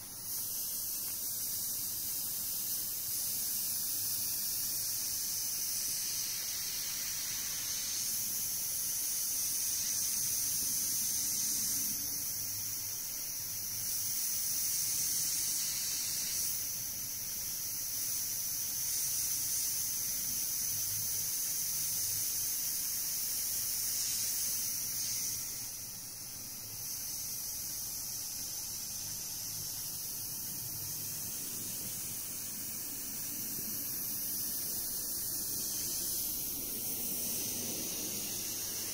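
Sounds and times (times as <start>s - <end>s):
airbrush hissing: 0.0s - 38.9s.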